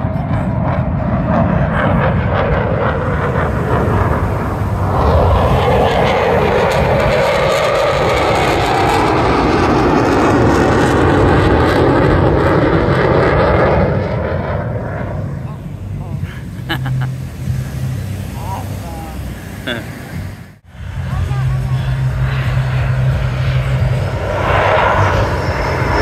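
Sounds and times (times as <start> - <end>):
plane flying past: 0.0 - 26.0.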